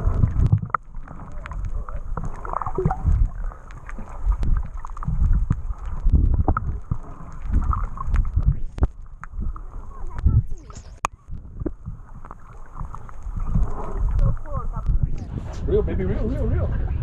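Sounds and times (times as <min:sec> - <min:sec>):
muffled water sloshing underwater: 0:00.0 - 0:17.0.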